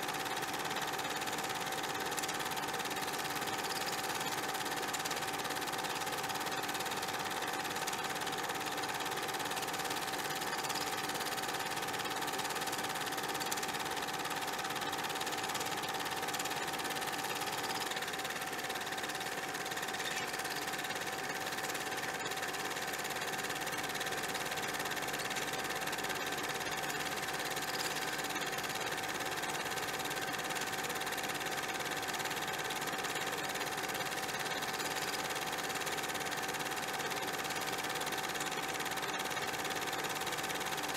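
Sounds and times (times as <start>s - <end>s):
small machine whirring: 0.0s - 40.9s.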